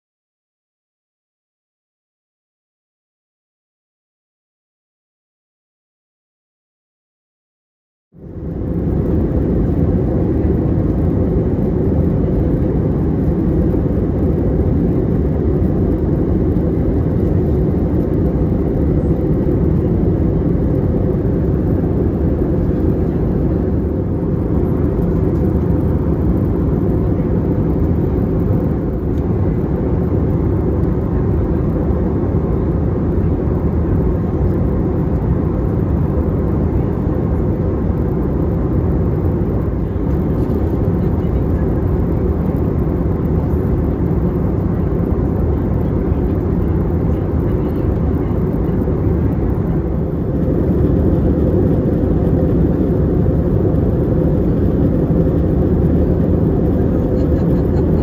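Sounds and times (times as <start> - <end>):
jet engine drone in cabin: 8.2 - 58.0.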